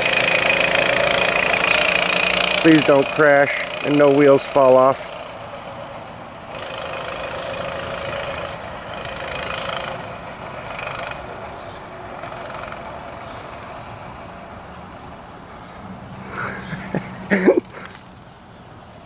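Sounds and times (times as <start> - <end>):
small vehicle engine driving away: 0.0 - 19.0.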